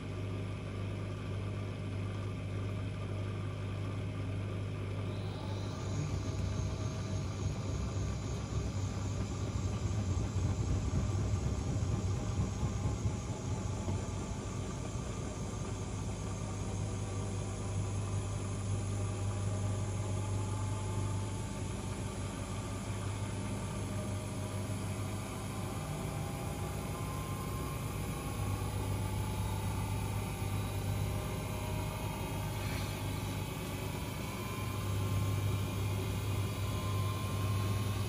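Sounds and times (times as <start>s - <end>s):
washing machines running: 0.0s - 38.0s
faint rising whine: 5.0s - 38.0s.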